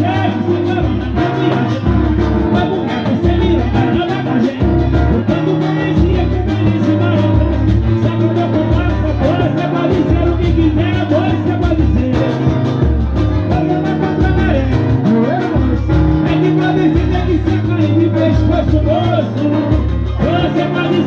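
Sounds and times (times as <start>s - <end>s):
band music with bass line: 0.0s - 21.0s.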